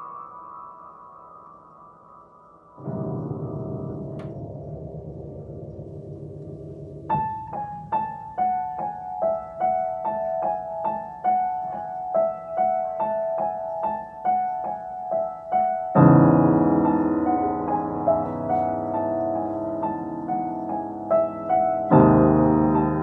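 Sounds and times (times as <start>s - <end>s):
piano repeated notes: 0.0s - 23.0s
loud low piano chord: 2.8s - 23.0s.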